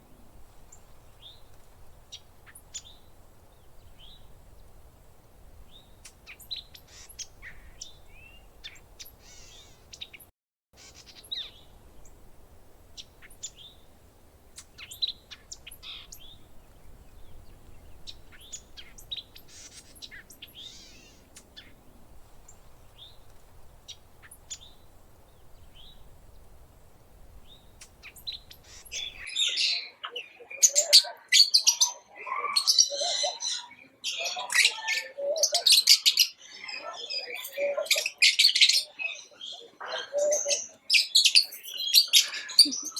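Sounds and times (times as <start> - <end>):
birds chirping: 0.0 - 42.9
many bird calls overlapping: 0.0 - 42.9.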